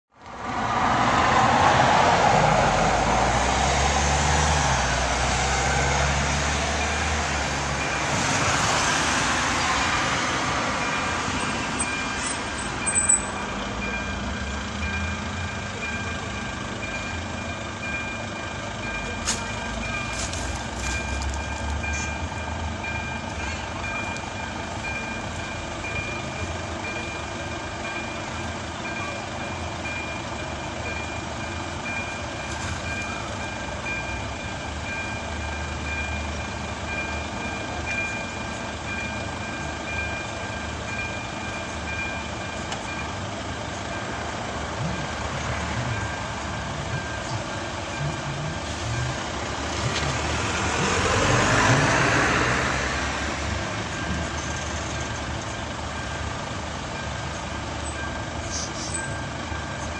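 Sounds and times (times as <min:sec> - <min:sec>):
vehicles driving past: 0:00.1 - 0:59.9
level crossing warning bell: 0:02.6 - 0:59.9.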